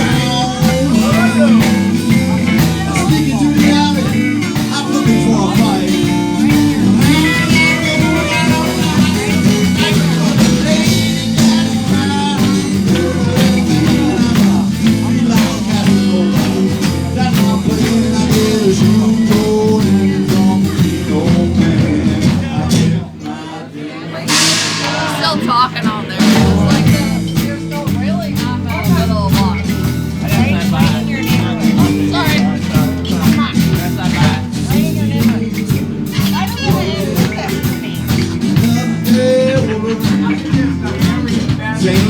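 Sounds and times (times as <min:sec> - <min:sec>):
guitar: 0:00.0 - 0:42.0
live blues band: 0:00.0 - 0:42.0.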